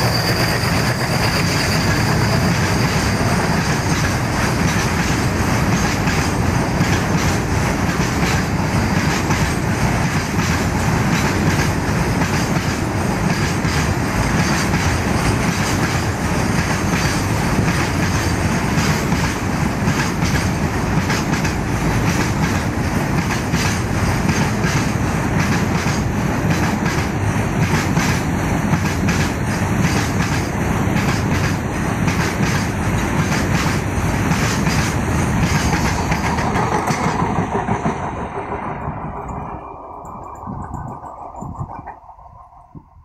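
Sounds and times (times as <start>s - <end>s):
train wheels clattering over rail joints: 0.0s - 42.1s.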